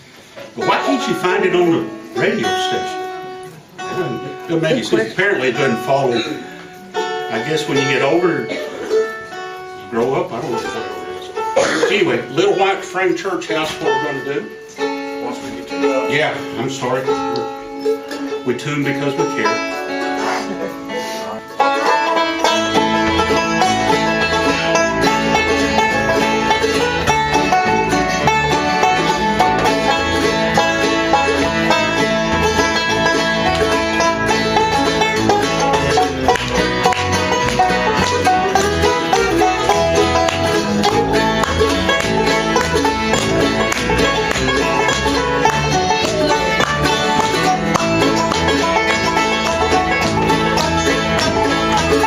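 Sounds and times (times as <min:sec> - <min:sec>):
banjo picking: 0:00.0 - 0:52.0
bluegrass band playing: 0:00.0 - 0:52.0
guitar picking: 0:00.0 - 0:52.0.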